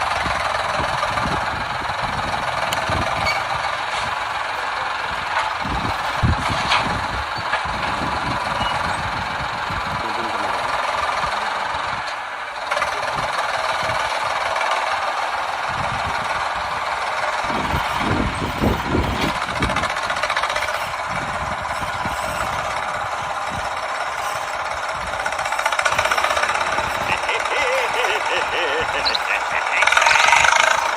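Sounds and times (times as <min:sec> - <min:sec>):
small tractor engine clattering: 0:00.0 - 0:30.9.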